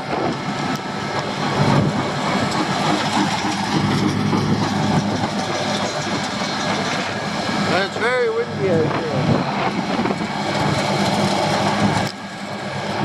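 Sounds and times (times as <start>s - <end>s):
diesel engines humming: 0.0s - 13.0s
machinery clatter: 0.0s - 13.0s.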